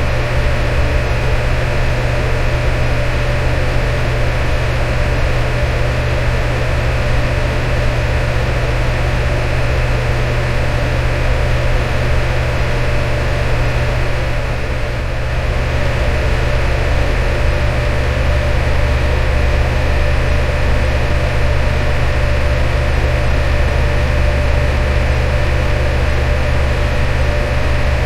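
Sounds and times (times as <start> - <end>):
electric fan running: 0.0 - 28.0.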